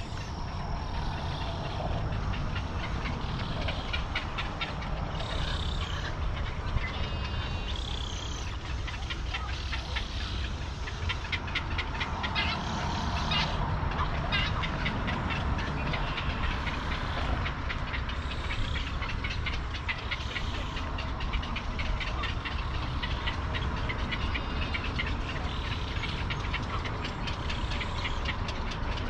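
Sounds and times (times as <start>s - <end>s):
birds calling harshly: 0.0s - 29.0s
low steady rumble: 0.0s - 29.0s.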